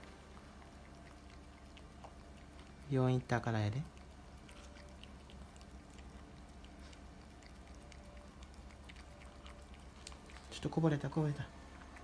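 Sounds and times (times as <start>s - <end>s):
low room hum: 0.0s - 12.0s
puppy chewing a treat: 0.0s - 12.0s.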